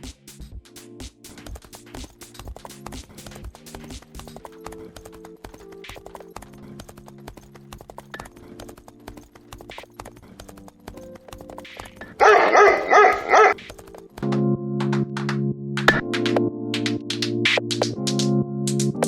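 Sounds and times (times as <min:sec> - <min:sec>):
soft music with ticking beats: 0:00.0 - 0:19.0.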